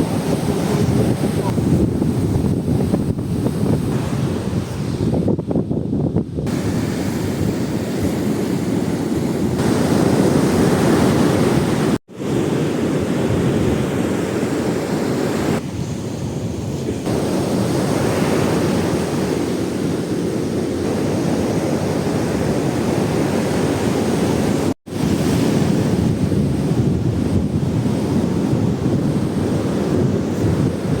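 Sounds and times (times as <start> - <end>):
ocean waves breaking on beach: 0.0 - 5.3, 6.4 - 31.0
wind buffeting microphone: 0.0 - 31.0.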